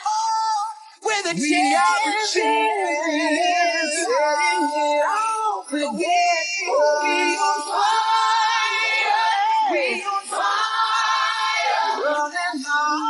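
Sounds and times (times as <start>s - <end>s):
voices singing in harmony: 0.0s - 13.0s.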